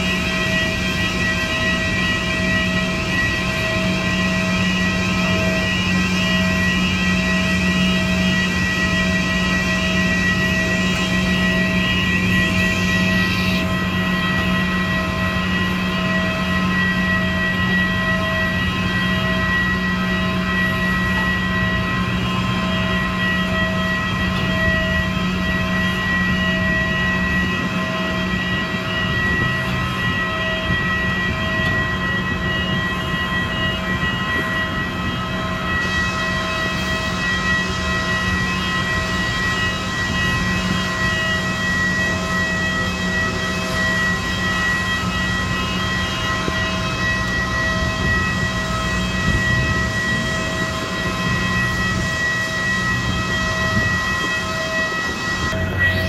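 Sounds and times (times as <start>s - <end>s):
ground machinery hum and whine: 0.0s - 56.0s
pulsing tone: 0.0s - 56.0s.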